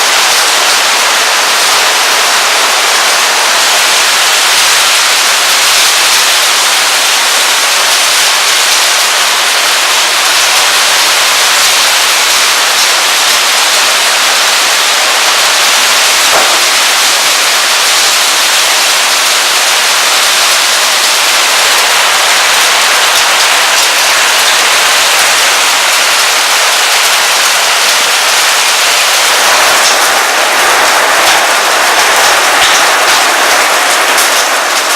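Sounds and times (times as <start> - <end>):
hail and rain on hard surfaces: 0.0 - 34.9.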